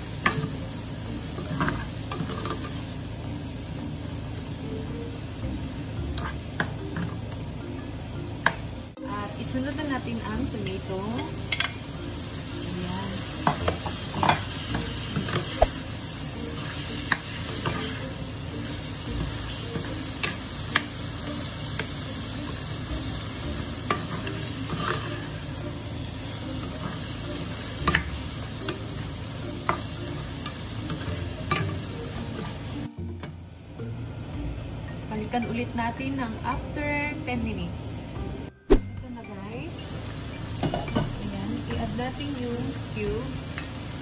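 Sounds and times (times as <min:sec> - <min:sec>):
food sizzling in oil: 0:00.0 - 0:32.9, 0:38.7 - 0:44.0.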